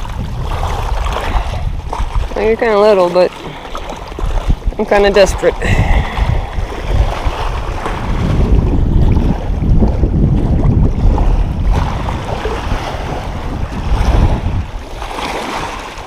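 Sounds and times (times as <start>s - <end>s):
waves lapping on rocks: 0.0s - 16.0s
wind buffeting microphone: 0.0s - 16.0s.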